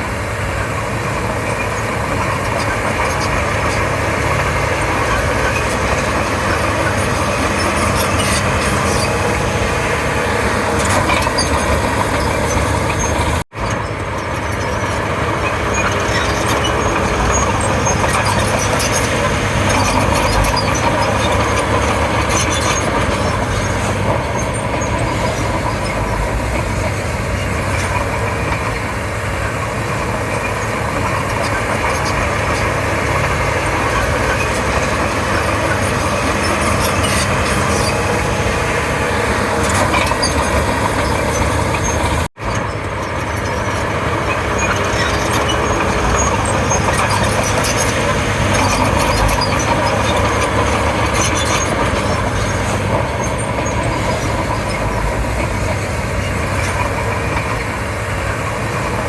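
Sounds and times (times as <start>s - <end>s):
bulldozer diesel engine running: 0.0s - 59.0s
steel tracks rattling and clanking: 0.0s - 59.0s.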